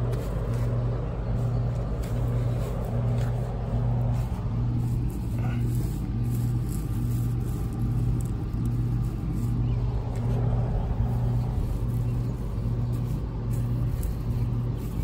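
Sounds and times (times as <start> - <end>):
machine humming with pulses: 0.0 - 15.0.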